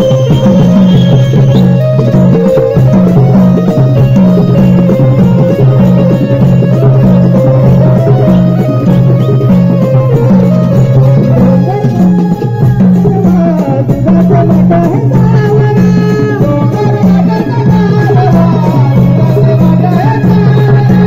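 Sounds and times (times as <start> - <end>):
folk music with keyboard: 0.0 - 21.0
rattling percussion: 0.0 - 21.0.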